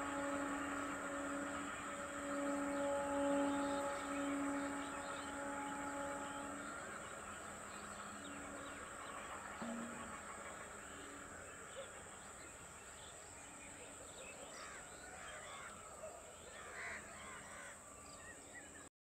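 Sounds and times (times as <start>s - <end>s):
steady high-pitched hiss: 0.0s - 18.9s.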